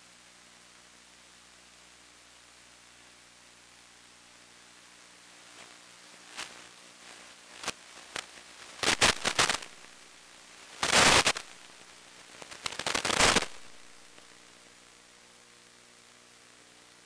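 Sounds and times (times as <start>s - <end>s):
radio static crackling: 0.0s - 17.0s
steady hiss and hum: 0.0s - 17.0s.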